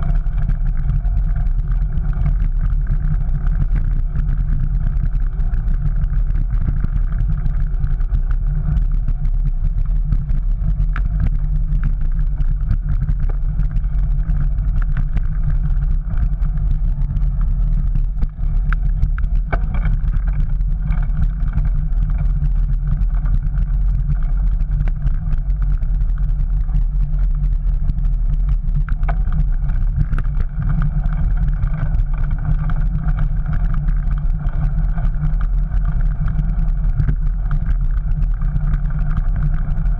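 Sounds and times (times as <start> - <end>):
bike clicks and rattles: 0.0 - 39.9
wind and riding noise: 0.0 - 39.9.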